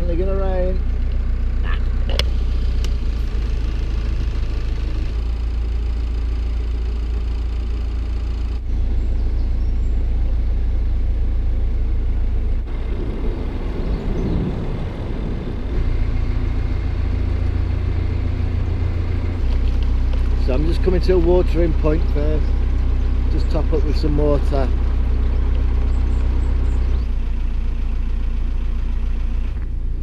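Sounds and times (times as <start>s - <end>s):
boat engine running: 0.0s - 29.6s.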